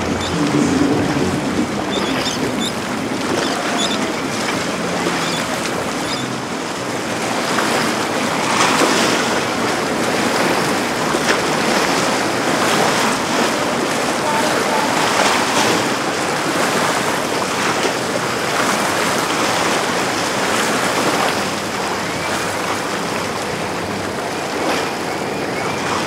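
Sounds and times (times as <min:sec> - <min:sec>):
water rushing: 0:00.0 - 0:26.0
wind buffeting microphone: 0:00.0 - 0:26.0.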